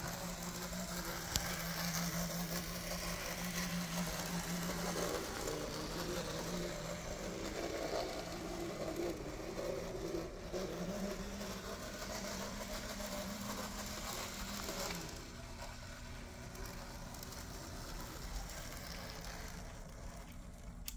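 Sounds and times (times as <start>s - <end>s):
model train motor whirring: 0.0s - 20.9s.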